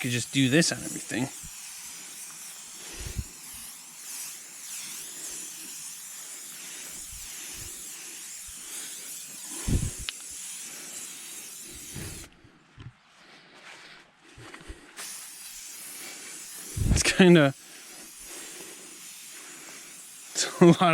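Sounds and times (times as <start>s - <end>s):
aerosol can spraying: 0.0s - 12.3s, 15.0s - 20.9s.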